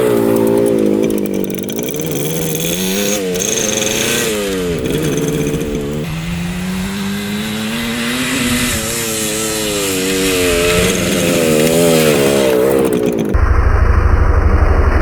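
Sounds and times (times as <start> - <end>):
two-stroke motorcycle engine revving: 0.0 - 13.4.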